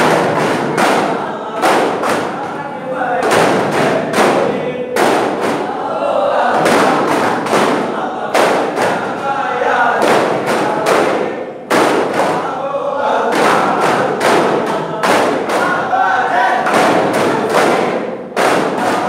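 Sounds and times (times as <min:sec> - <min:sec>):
frame drums slapping: 0:00.0 - 0:12.6, 0:13.2 - 0:19.0
men singing in chorus: 0:00.0 - 0:19.0.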